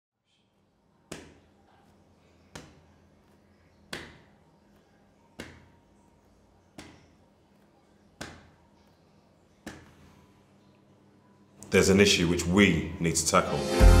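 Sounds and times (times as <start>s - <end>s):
faint low hum: 0.2s - 13.5s.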